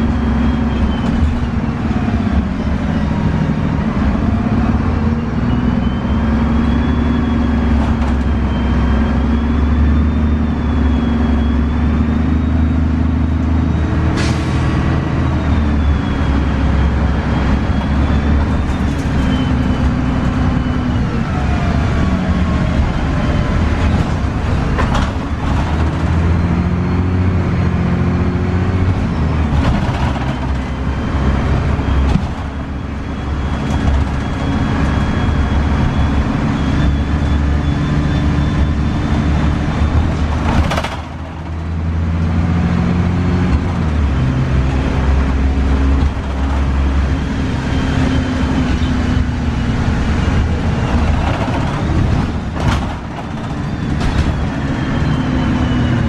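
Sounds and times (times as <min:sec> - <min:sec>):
bus engine low drone: 0:00.0 - 0:56.0.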